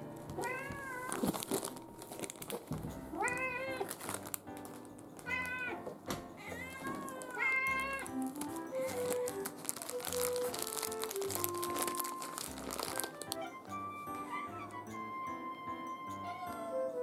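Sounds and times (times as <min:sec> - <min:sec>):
light background music: 0:00.0 - 0:17.0
cats meowing: 0:00.2 - 0:01.8, 0:03.1 - 0:04.3, 0:05.2 - 0:17.0.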